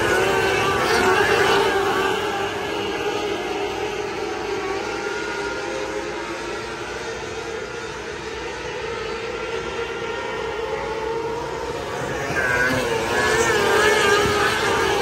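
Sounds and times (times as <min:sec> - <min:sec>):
racing car engines wailing: 0:00.0 - 0:15.0.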